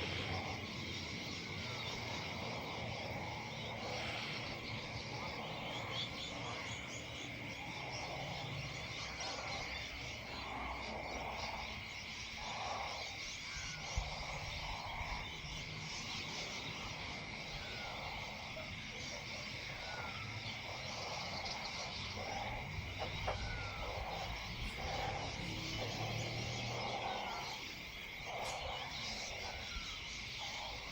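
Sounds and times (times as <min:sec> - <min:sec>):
frogs croaking: 0:00.0 - 0:30.9
steady high drone: 0:00.0 - 0:30.9.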